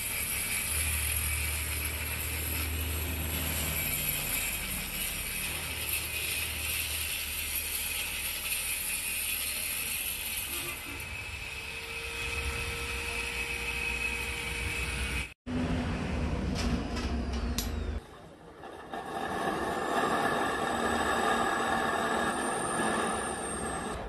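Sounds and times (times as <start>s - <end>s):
power tool cutting masonry: 0.0s - 15.4s, 18.3s - 24.0s.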